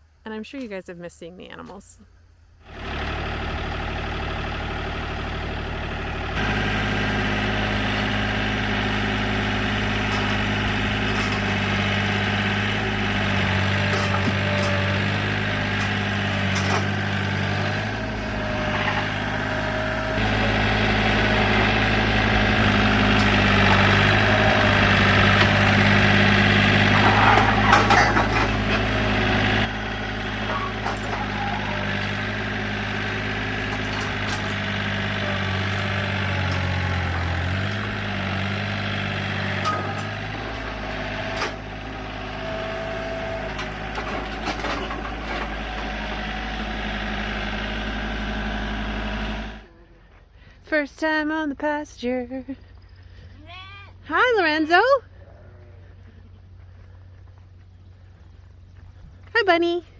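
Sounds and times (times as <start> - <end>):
engine running low hum: 0.0 - 59.9.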